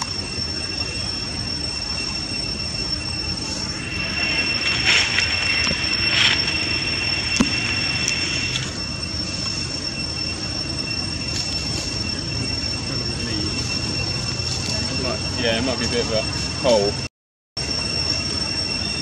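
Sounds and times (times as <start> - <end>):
steady high-pitched whine: 0.0 - 19.0.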